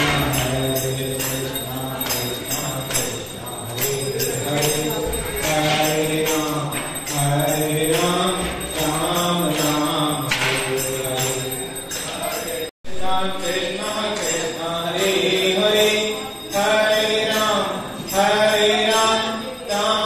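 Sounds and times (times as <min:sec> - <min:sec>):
hand cymbals ringing: 0:00.0 - 0:12.7, 0:13.3 - 0:20.0
bells ringing: 0:00.0 - 0:20.0
man chanting: 0:00.0 - 0:20.0.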